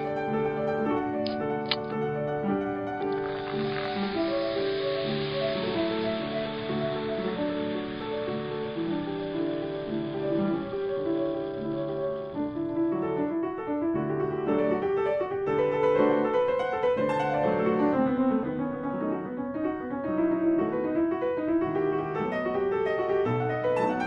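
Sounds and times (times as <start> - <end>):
classical piano music: 0.0 - 24.0.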